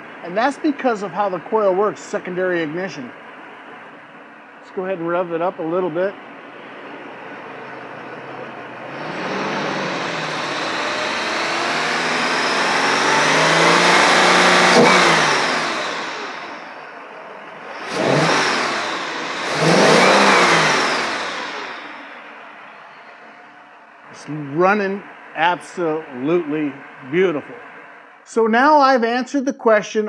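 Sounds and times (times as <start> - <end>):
car engine revving: 0.0 - 28.2.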